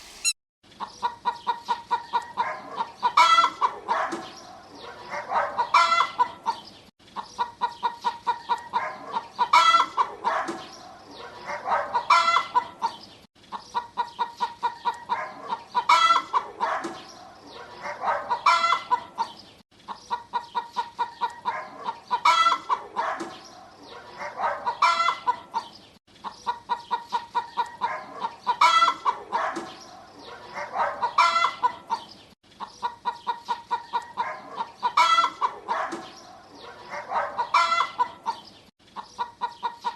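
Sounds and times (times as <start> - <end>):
hen cackling: 0.8 - 39.9.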